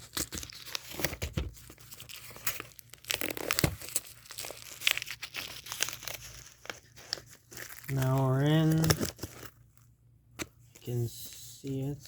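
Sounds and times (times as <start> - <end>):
parcel packaging tearing and crinkling: 0.0 - 9.9.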